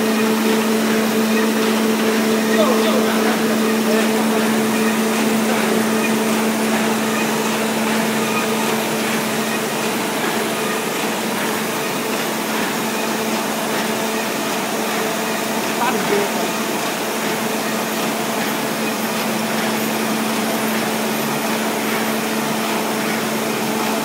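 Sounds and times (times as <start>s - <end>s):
machine humming and rattling: 0.0s - 24.0s.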